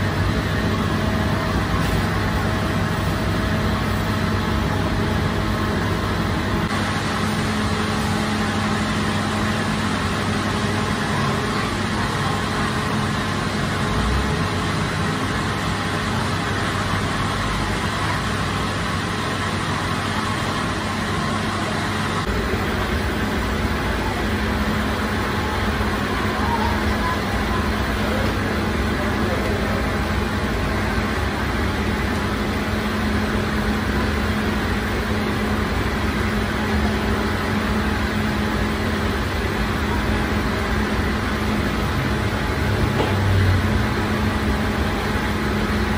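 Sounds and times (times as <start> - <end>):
machinery low hum: 0.0 - 45.9.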